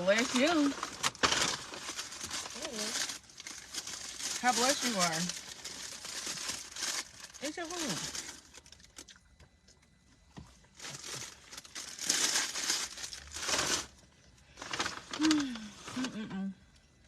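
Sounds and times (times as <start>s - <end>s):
wrapper crinkling: 0.0s - 9.2s, 10.7s - 16.1s.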